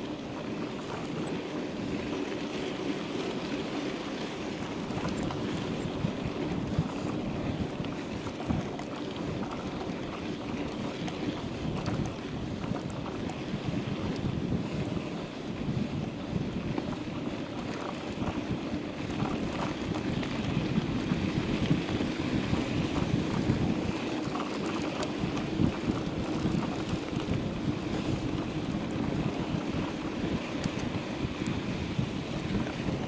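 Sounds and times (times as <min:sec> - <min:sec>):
bike rattles: 0:00.0 - 0:33.0
wind rushing over microphone: 0:03.1 - 0:33.0.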